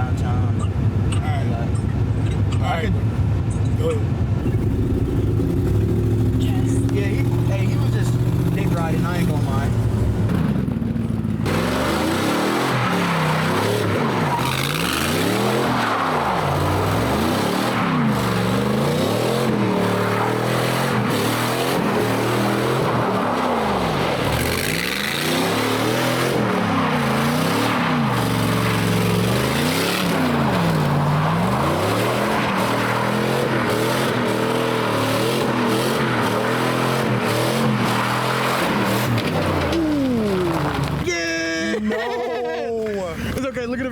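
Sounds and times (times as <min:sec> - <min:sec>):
truck engine revving: 0:04.1 - 0:41.1.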